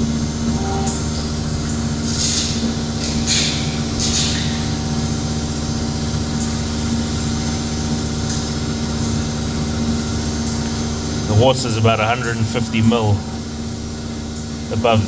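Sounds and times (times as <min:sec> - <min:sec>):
engine and vacuum pump running: 0:00.0 - 0:15.0.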